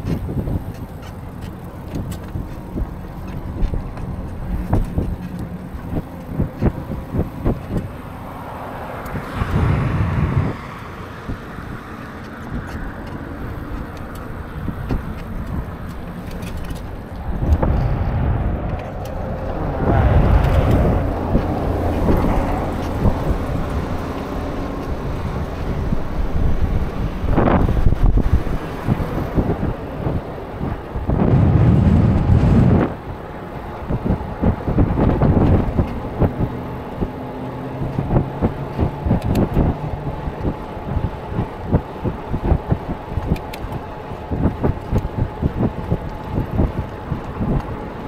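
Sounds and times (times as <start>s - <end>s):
tyre and road noise: 0.0s - 48.0s
wind buffeting microphone: 0.0s - 48.0s.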